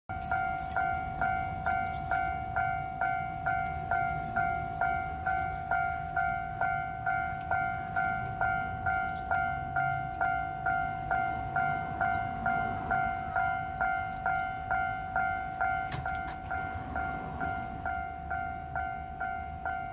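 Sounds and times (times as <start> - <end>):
level crossing warning bell: 0.1 - 19.9.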